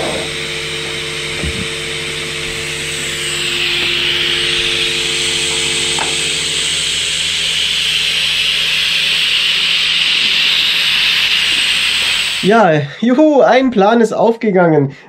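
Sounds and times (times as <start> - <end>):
steam boiler hissing: 0.0 - 13.5
steady low tones: 0.0 - 13.9.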